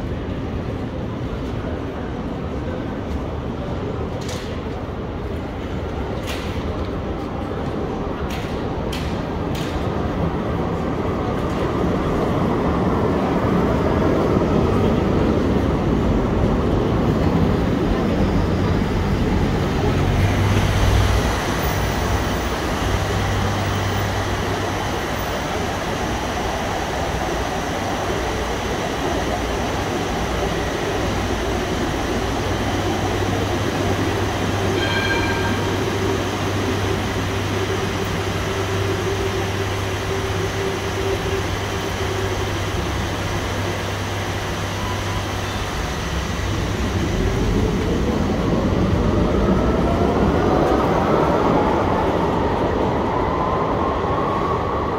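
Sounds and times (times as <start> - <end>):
electric tram rolling: 0.0 - 54.9
low electrical hum of tram: 0.0 - 54.9.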